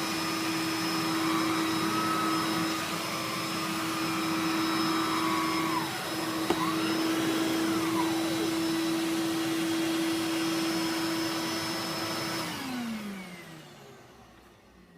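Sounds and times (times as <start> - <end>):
vacuum cleaner motor hum: 0.0 - 14.9.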